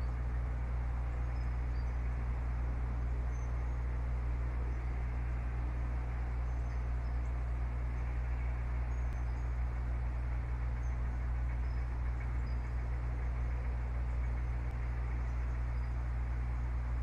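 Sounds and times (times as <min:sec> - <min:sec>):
low rumble and hum: 0:00.0 - 0:17.0.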